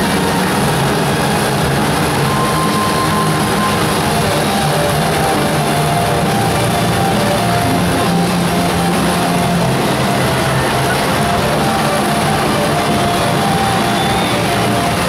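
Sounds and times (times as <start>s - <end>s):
loud music: 0.0s - 15.0s
motorcycle engines revving: 0.0s - 15.0s.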